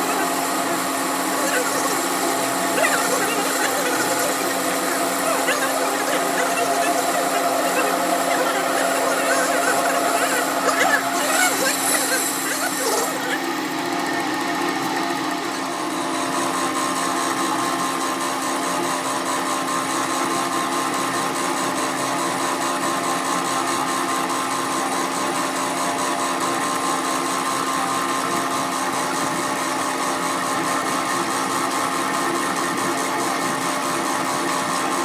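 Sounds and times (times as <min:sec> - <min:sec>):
power tool running steadily: 0:00.0 - 0:35.0.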